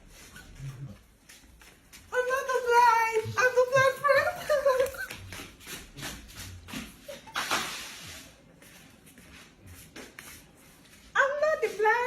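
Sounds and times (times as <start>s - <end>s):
rustling and shuffling: 0.0s - 12.0s.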